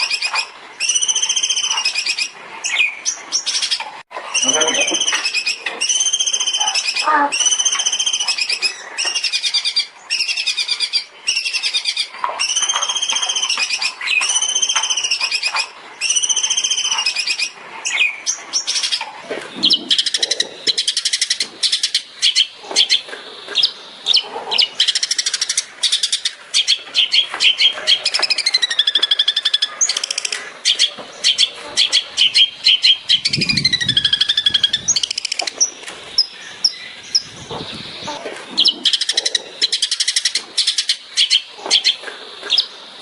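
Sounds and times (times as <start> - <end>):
bird whistling and chattering: 0.0 - 19.0, 23.6 - 42.7.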